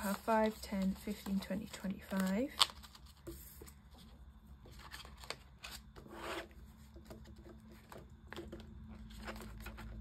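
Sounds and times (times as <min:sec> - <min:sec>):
banknotes and envelope rustling: 0:00.0 - 0:10.0.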